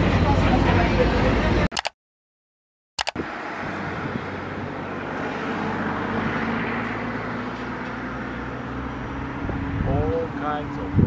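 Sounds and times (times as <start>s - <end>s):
outdoor background noise: 0.0s - 1.9s, 3.0s - 11.0s.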